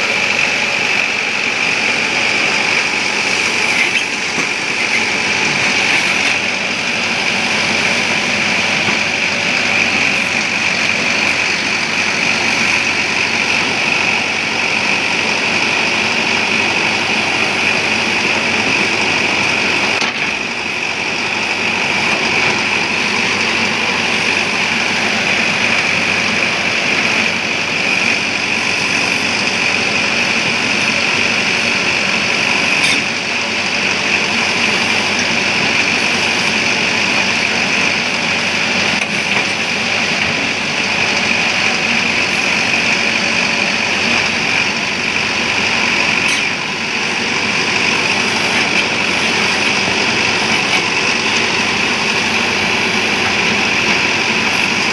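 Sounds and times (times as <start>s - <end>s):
diesel engines running: 0.0s - 54.9s
soil being loaded: 0.0s - 54.9s.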